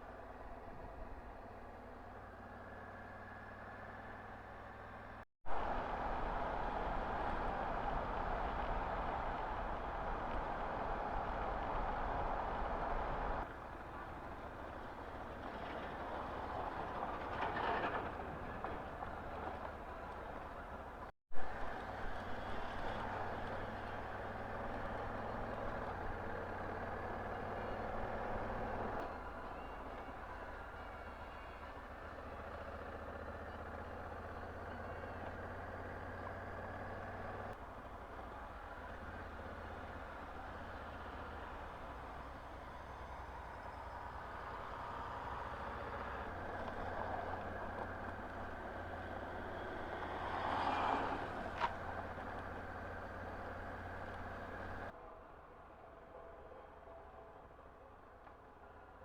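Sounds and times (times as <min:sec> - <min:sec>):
motorcycle engine rumble: 0:00.0 - 0:54.9
wind and road noise: 0:00.0 - 0:55.7.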